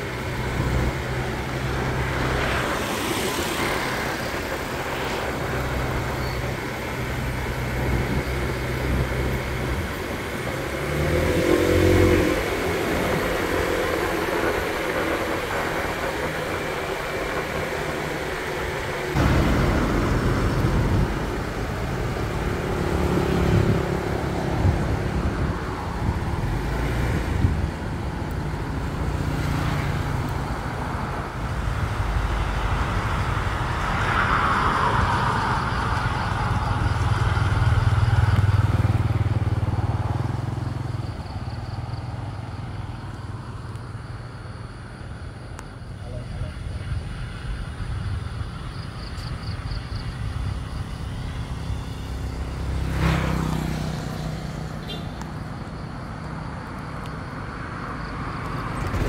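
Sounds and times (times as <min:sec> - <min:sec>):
passing traffic: 0:00.0 - 0:59.0
vehicle engine and road noise: 0:00.0 - 0:59.0.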